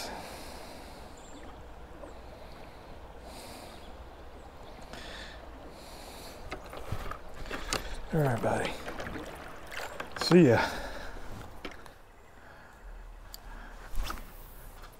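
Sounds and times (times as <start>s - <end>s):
stream water flowing: 0.0s - 13.5s.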